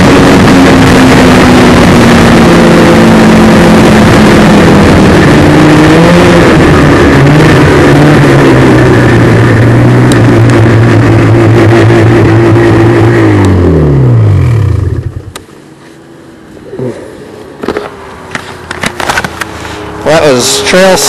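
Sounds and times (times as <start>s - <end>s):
snowmobile engine running: 0.0s - 15.4s, 18.4s - 21.0s
snowmobile track noise: 0.0s - 21.0s.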